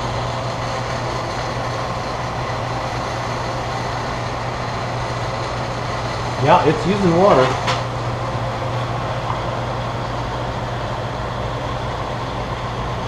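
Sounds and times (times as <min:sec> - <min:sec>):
electric pump humming: 0:00.0 - 0:13.0.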